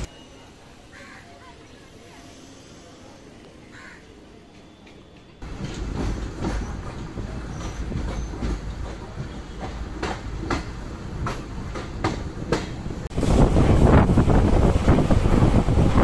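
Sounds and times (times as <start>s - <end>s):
train coach rumbling: 0.0s - 16.0s.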